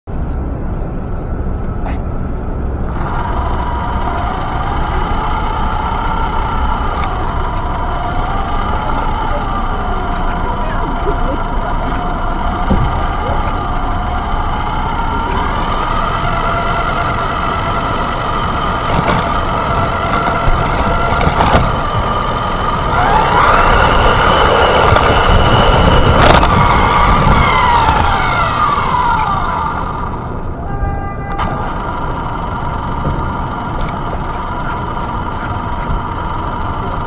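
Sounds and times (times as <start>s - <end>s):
rc truck driving on pavement: 0.1s - 37.0s
siren wailing: 2.8s - 37.0s.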